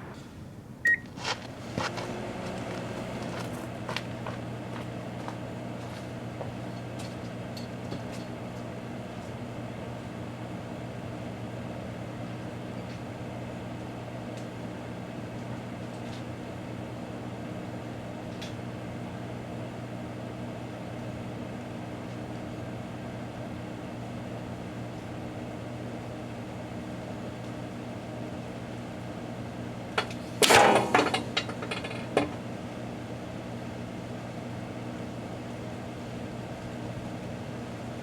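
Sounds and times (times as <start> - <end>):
microwave oven humming: 0.0 - 38.0.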